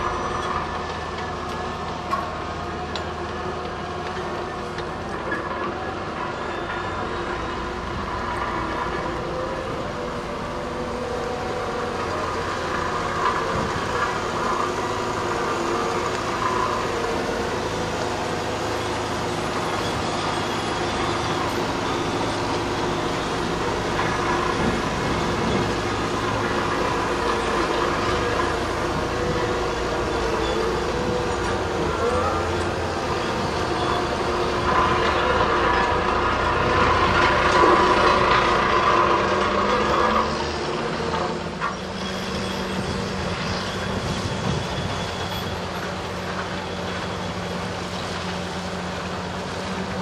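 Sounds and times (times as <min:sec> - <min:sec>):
diesel engine running: 0:00.0 - 0:50.0
wheels on gravel: 0:00.0 - 0:50.0.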